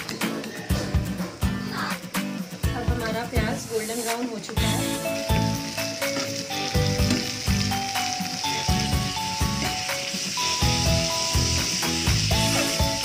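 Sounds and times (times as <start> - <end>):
background music with beat: 0.0 - 13.0
vegetables sizzling in oil: 0.8 - 13.0.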